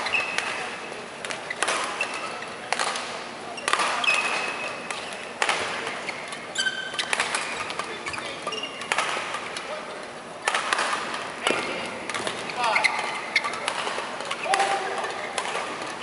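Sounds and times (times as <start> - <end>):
court shoes squeaking: 0.0 - 16.0
racket hitting shuttlecock: 0.1 - 9.8, 10.4 - 16.0.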